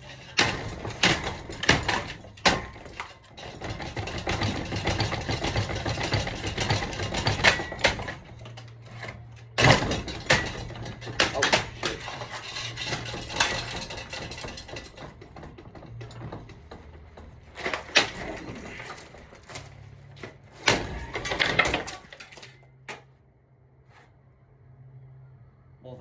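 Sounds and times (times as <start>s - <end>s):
ceiling fan clattering and knocking: 0.0s - 23.1s.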